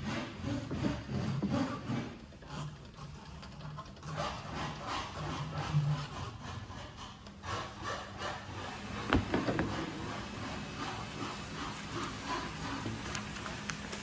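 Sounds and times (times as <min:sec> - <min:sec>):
printing press roller scraping: 0:00.0 - 0:06.5, 0:07.4 - 0:14.0.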